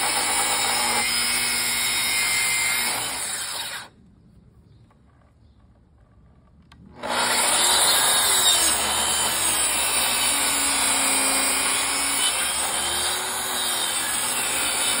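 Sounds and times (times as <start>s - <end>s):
track saw cutting wood: 0.0s - 3.9s, 6.9s - 15.0s.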